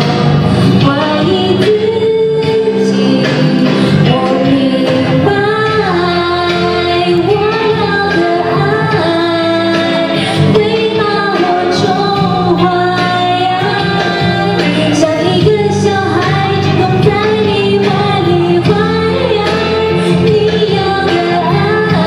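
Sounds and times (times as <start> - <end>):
instrumental accompaniment: 0.0 - 22.0
woman singing pop song: 0.0 - 22.0.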